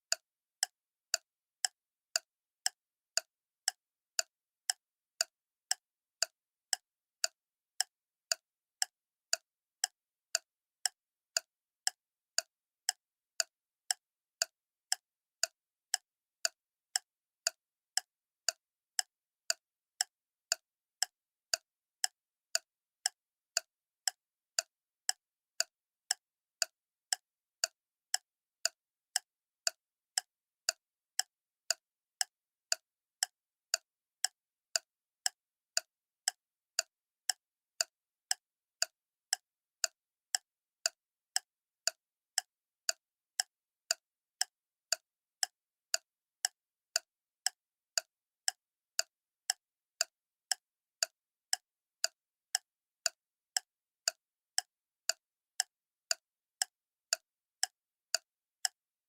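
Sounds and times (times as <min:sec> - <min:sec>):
clock ticking: 0:00.1 - 0:58.8.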